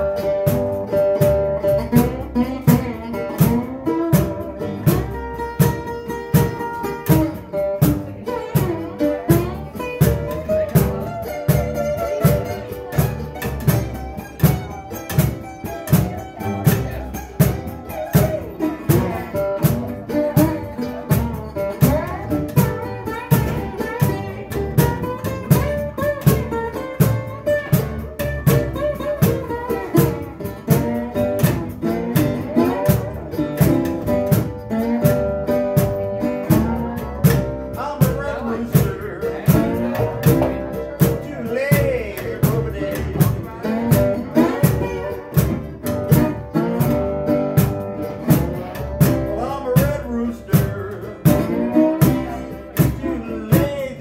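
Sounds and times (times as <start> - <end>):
cajon beat: 0.0 - 54.0
plucked acoustic guitars: 0.0 - 54.0
upright bass: 0.0 - 54.0.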